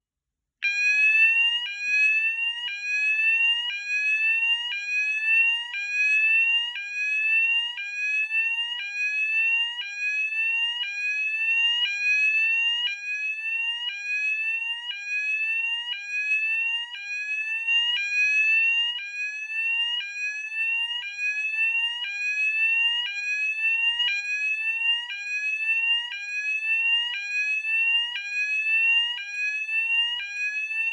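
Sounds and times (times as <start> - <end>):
fire alarm rising sweep: 0.6 - 30.9.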